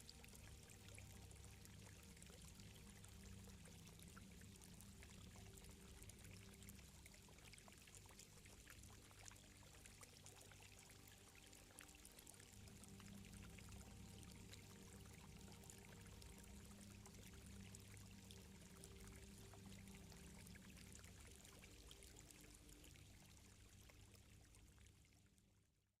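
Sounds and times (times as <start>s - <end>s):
water trickling: 0.0s - 25.4s
low steady hum: 0.0s - 25.8s.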